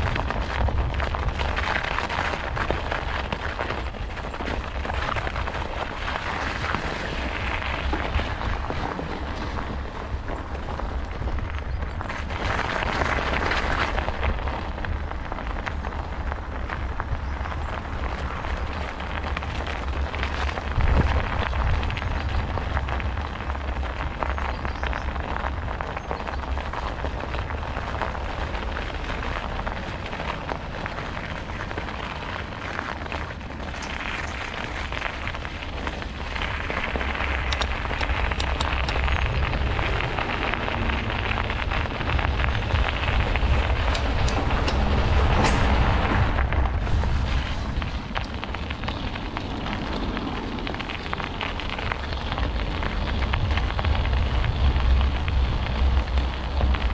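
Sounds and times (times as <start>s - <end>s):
tyres rushing on trail: 0.0s - 56.9s
wind rumbling on microphone: 0.0s - 56.9s.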